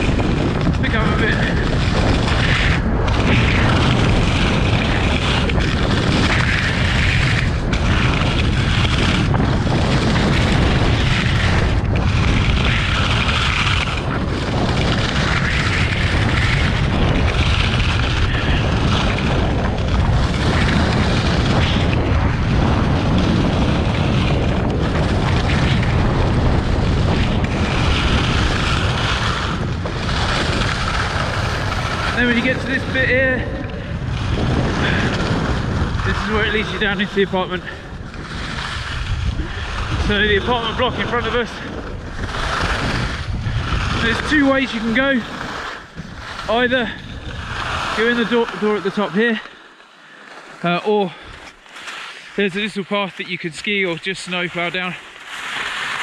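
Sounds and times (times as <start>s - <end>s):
skis scraping over snow: 0.0s - 56.0s
wind buffeting microphone: 0.0s - 56.0s.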